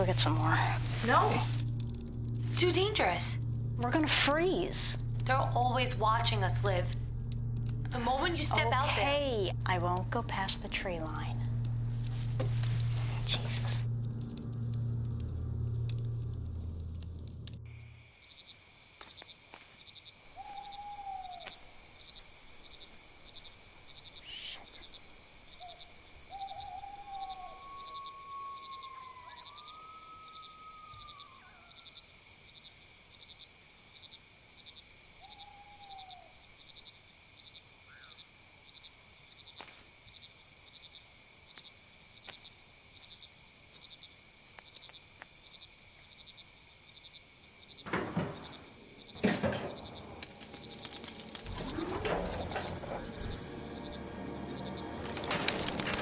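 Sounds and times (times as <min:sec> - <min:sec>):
crickets and insects chirping: 0:00.0 - 0:56.0.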